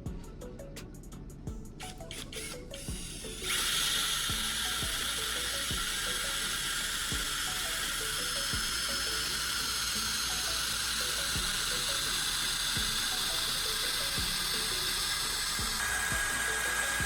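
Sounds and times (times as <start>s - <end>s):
high scraping hiss: 1.8s - 17.0s.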